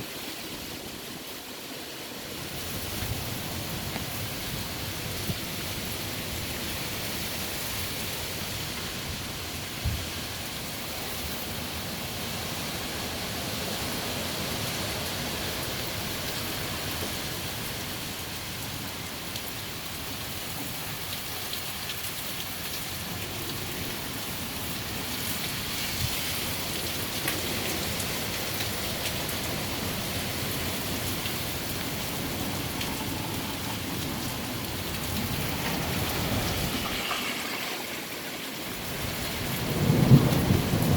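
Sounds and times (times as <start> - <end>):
steady rain pouring: 0.0 - 40.9.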